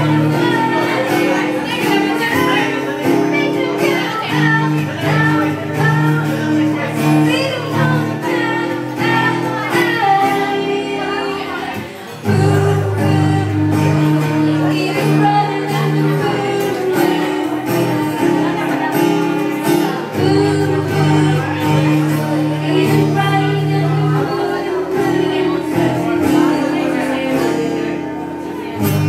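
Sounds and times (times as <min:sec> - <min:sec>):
person singing: 0:00.0 - 0:29.0.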